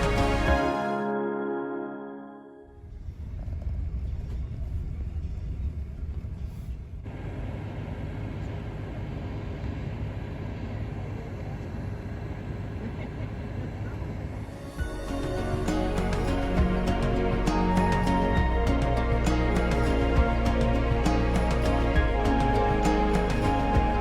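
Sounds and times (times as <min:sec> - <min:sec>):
low rumble: 0:02.8 - 0:24.0.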